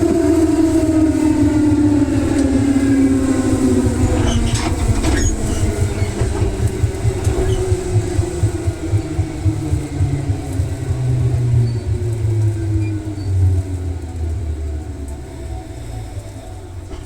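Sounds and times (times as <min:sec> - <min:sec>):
train rumble: 0:00.0 - 0:17.0
wheels clicking over rail joints: 0:00.0 - 0:17.0.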